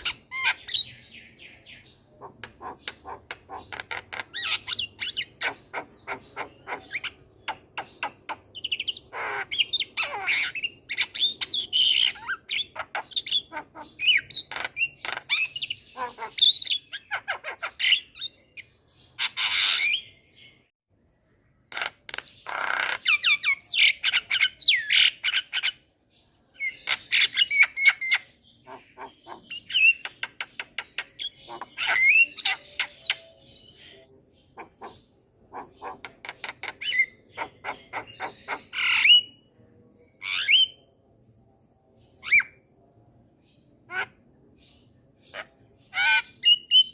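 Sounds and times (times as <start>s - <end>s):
myna bird singing: 0.0s - 46.9s.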